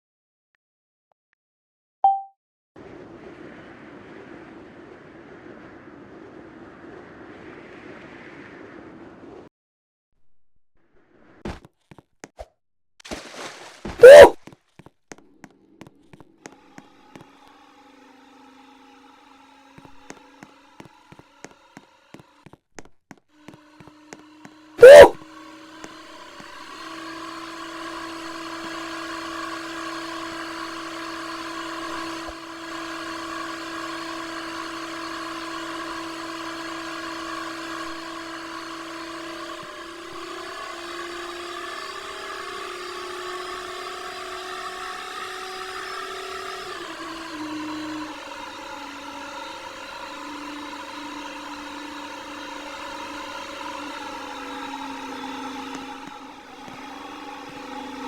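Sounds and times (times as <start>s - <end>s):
washing machine motor whine: 2.8s - 9.5s, 14.0s - 58.0s.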